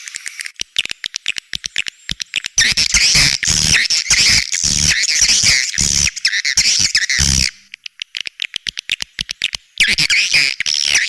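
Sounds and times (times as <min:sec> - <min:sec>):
rapid sharp clicks: 0:00.2 - 0:09.8.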